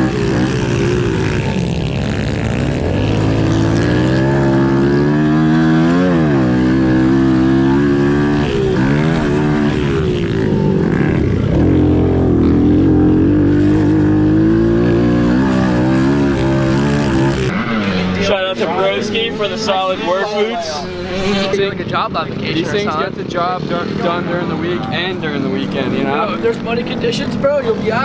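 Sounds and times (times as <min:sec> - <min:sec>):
pit bike engines revving: 0:00.0 - 0:28.0.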